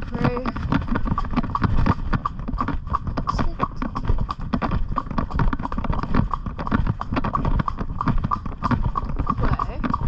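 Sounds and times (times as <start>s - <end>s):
pony hoofbeats: 0.0s - 10.0s.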